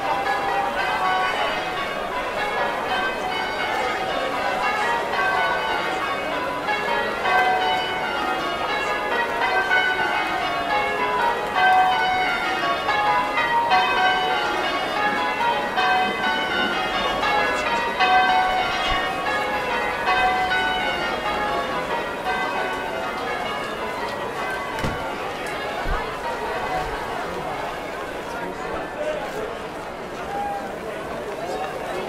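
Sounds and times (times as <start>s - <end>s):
church bells ringing: 0.0s - 30.1s.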